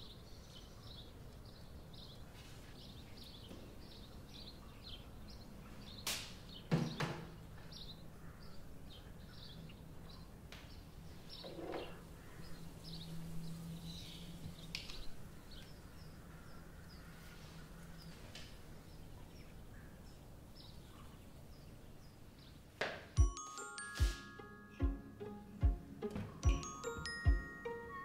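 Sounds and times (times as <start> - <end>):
faint birds chirping: 0.0 - 23.1.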